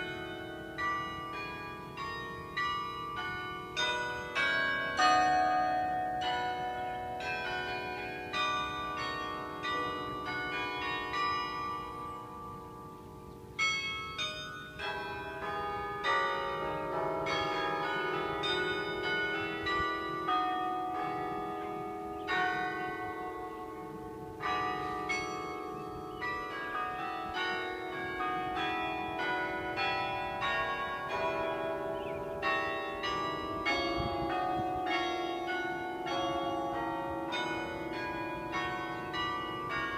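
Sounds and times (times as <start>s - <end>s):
carillon bells playing melody: 0.0s - 39.9s.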